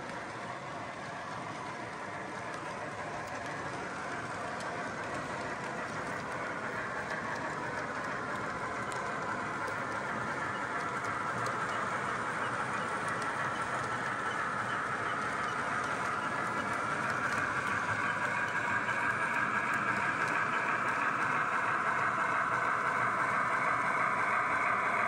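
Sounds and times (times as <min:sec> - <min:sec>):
model train whirring rumble: 0:00.0 - 0:25.0
wheels clicking over track: 0:00.0 - 0:25.0.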